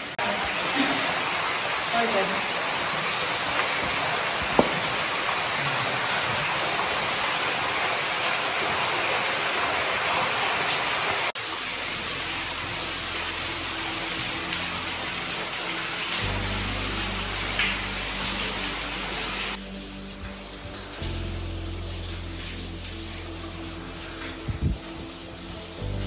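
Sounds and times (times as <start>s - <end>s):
waterfall splashing in a cave: 0.0s - 26.0s.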